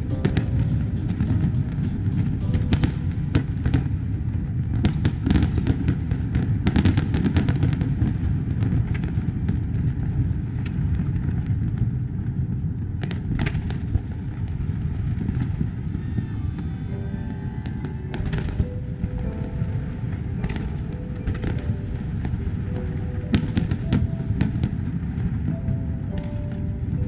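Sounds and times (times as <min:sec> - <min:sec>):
firework bangs and crackles: 0:00.0 - 0:27.0.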